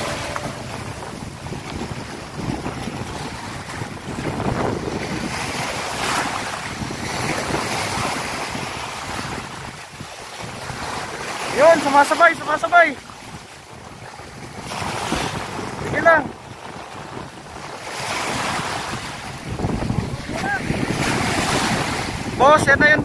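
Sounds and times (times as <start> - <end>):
small waves breaking on beach: 0.0 - 23.0
wind buffeting microphone: 0.0 - 23.0.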